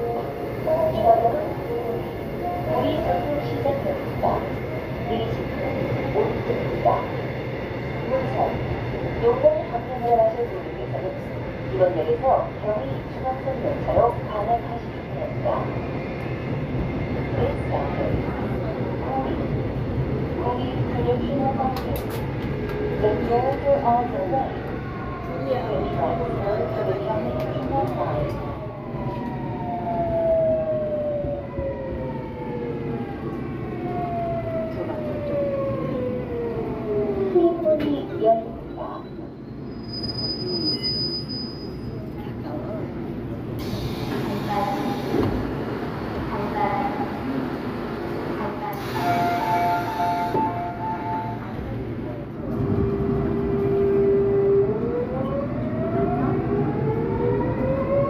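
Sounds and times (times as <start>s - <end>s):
subway train traction whine: 0.0s - 58.0s
train low rumble: 0.0s - 58.0s.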